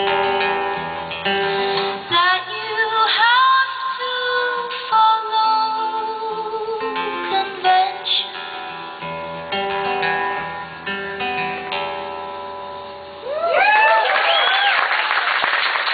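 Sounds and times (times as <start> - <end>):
acoustic guitar playing: 0.0 - 13.4.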